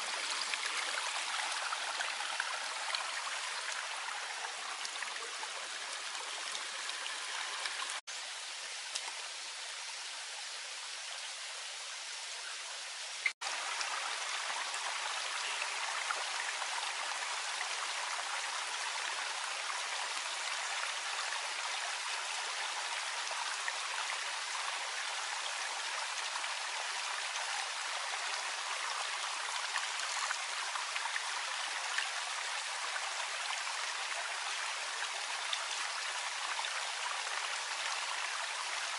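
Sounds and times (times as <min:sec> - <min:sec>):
small stream of water running: 0:00.0 - 0:38.9.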